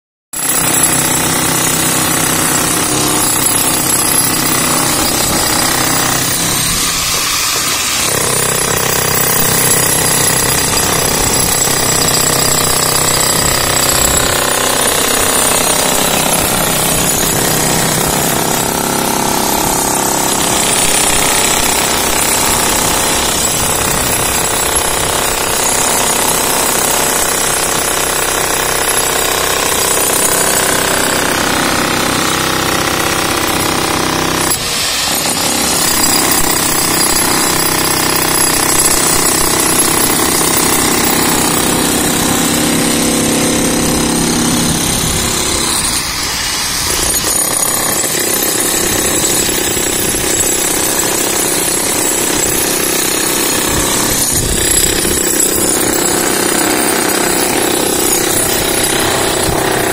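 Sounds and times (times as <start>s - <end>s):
demolition hammers chiselling concrete: 0.4s - 59.9s.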